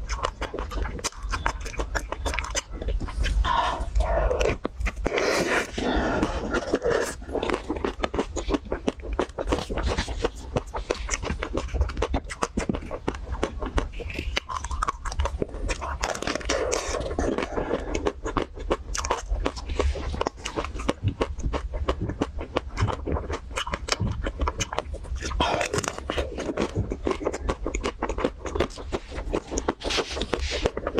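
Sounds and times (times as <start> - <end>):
crunchy ice cream bar chewing: 0.0 - 30.9.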